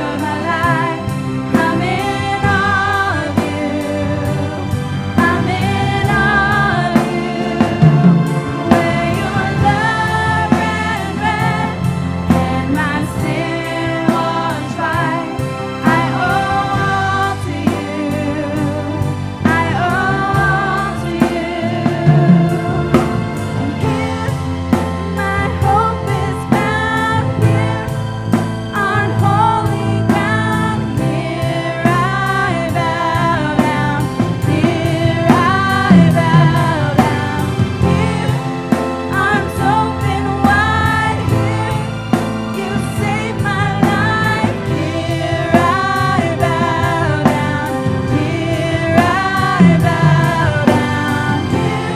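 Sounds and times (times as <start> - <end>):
worship song with band and drums: 0.0 - 51.9.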